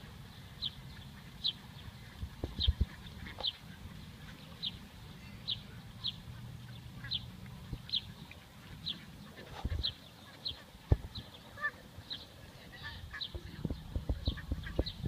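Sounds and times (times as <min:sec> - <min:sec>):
bird chirping: 0:00.3 - 0:15.0.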